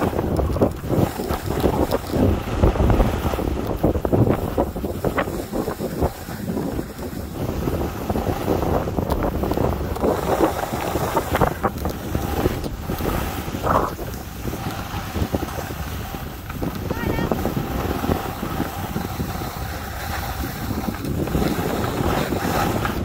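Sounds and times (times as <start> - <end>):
skis scraping on snow: 0.0 - 23.0
wind rushing over microphone: 0.0 - 23.0.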